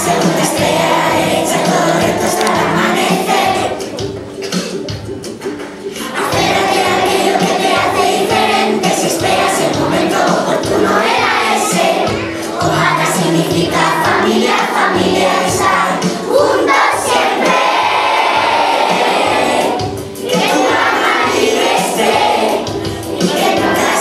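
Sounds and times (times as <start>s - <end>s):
children's choir singing: 0.0s - 24.0s
musical accompaniment: 0.0s - 24.0s.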